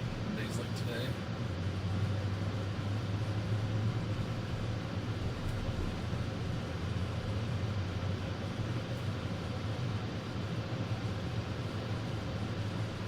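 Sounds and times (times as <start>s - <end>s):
car cabin road noise: 0.0s - 13.0s.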